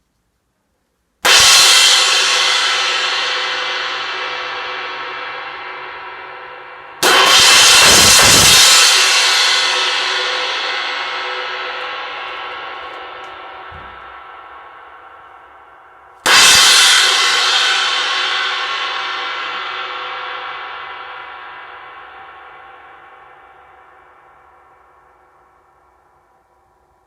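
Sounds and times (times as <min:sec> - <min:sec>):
crash cymbal struck: 0:01.2 - 0:24.2.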